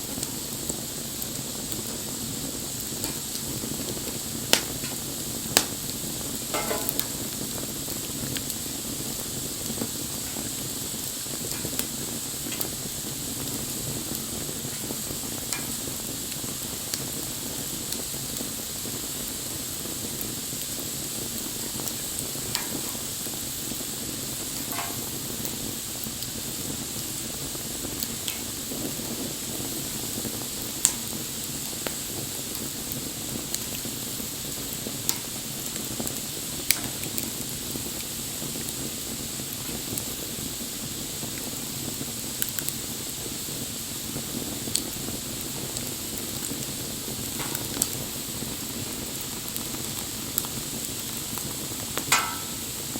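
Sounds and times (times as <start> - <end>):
bonfire hissing and crackling: 0.0 - 52.9
loud fire pops: 0.0 - 52.9.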